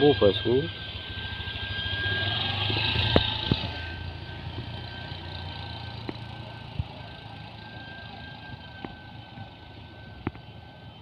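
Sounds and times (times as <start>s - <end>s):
engine rumble: 0.0s - 11.0s
steady high whine: 0.0s - 11.0s.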